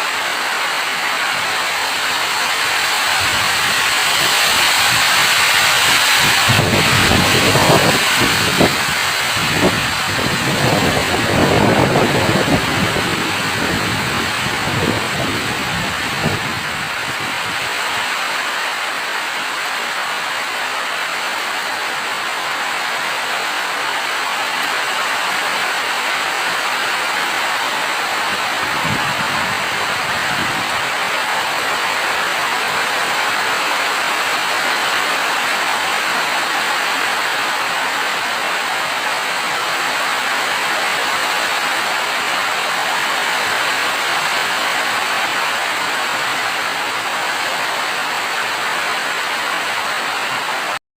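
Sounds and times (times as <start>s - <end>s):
heavy rainfall: 0.0s - 50.8s.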